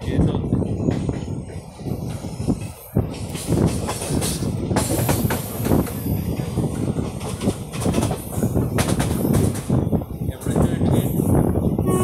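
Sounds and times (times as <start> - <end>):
train wheels clattering over rail joints: 0.1 - 11.1.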